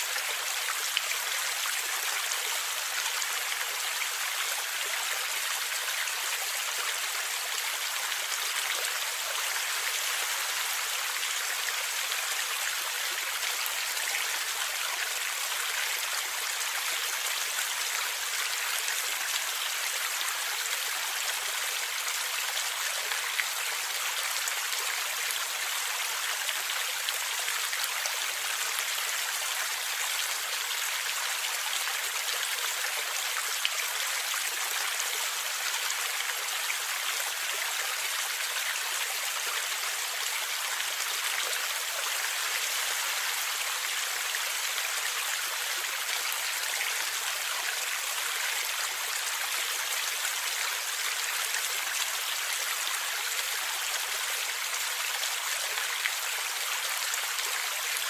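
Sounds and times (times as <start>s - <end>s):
stream water flowing and gurgling: 0.0s - 58.0s.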